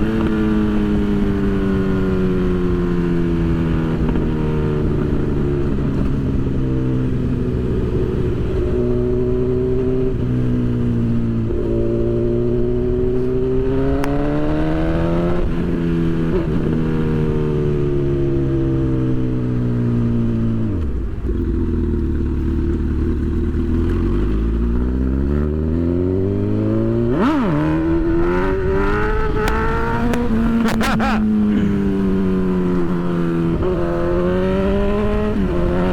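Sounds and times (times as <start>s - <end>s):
motorcycle engine accelerating: 0.0s - 35.9s.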